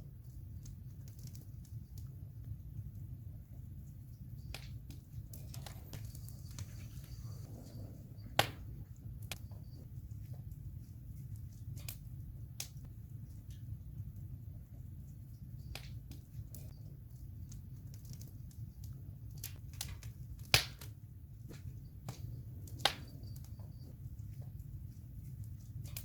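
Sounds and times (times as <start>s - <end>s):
campfire crackling: 0.0s - 26.0s
low steady rumble: 0.0s - 26.0s.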